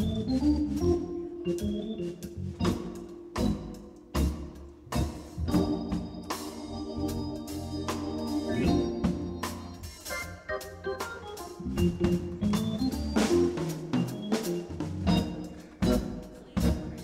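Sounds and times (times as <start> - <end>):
organ sustained chords: 0.0 - 17.0.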